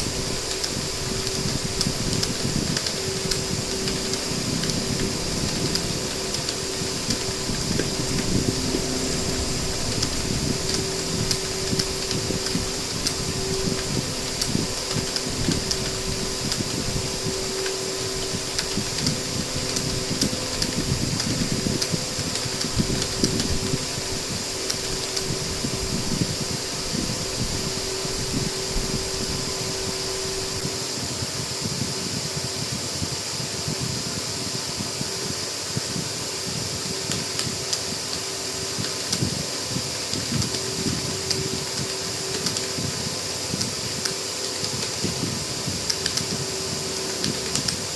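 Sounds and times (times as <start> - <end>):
fast keyboard typing: 0.0 - 27.8, 37.0 - 47.9
fan-like hum: 0.0 - 47.9.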